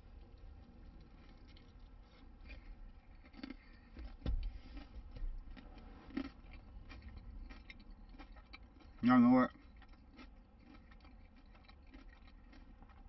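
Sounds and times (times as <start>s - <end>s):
chewing crunches: 0.0s - 13.0s.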